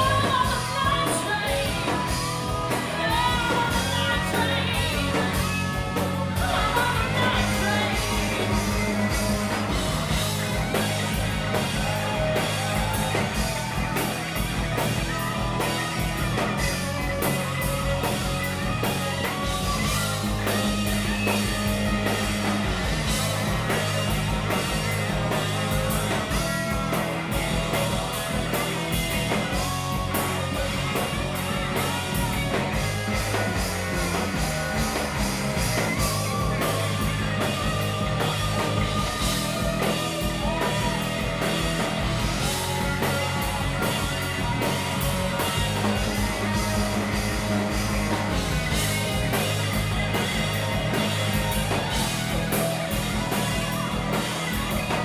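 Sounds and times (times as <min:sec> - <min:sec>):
instrumental hard rock band: 0:00.0 - 0:55.0.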